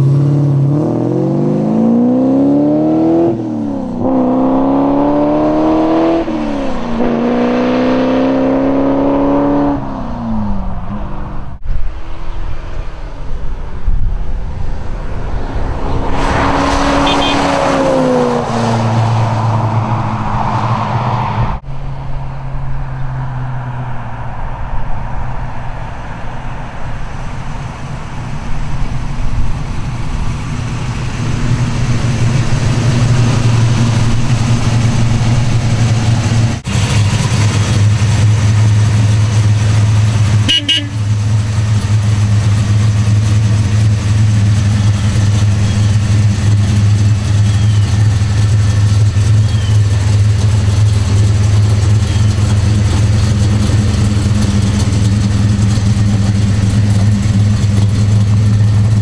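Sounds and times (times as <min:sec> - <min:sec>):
car engine low rumble: 0:00.0 - 0:59.0.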